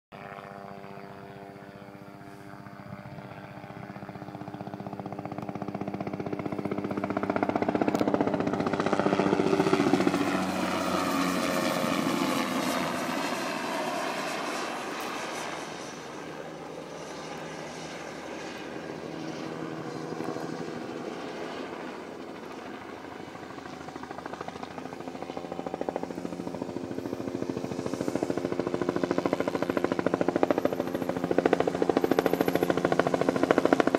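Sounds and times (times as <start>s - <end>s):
helicopter turbine and rotor: 0.1s - 33.9s.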